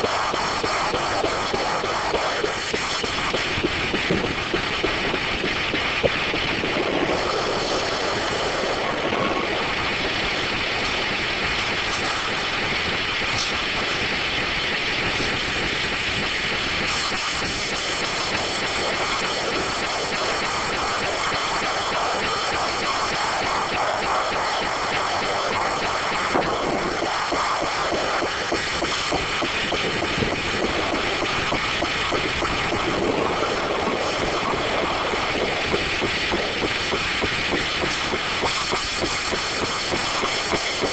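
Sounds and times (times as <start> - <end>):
circular sawmill running: 0.0 - 40.9.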